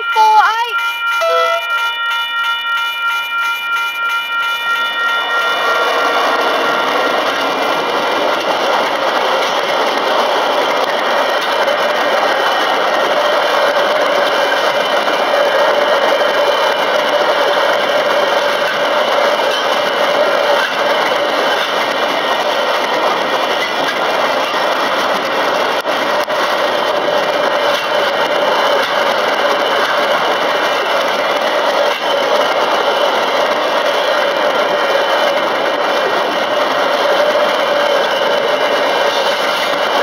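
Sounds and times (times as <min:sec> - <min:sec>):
freight train rumbling over rails: 0:00.0 - 0:40.0.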